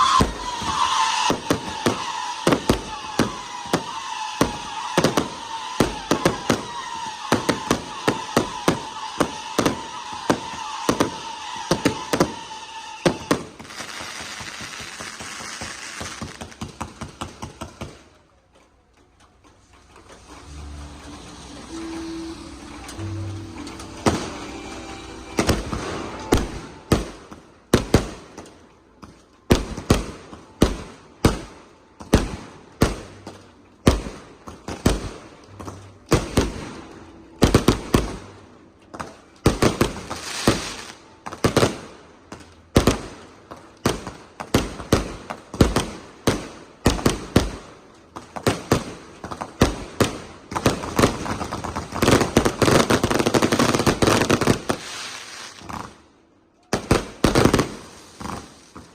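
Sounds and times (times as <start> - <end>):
fireworks bangs: 0.0 - 18.2, 19.6 - 58.9
fireworks crackling: 0.0 - 18.2, 19.4 - 58.9.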